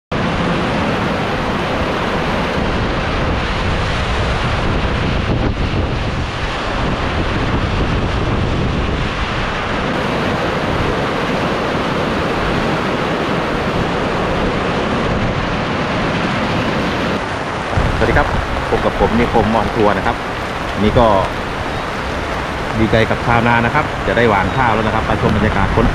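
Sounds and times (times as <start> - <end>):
heavy rain on metal roofs: 0.1 - 25.9
wind rumbling on microphone: 0.1 - 25.9.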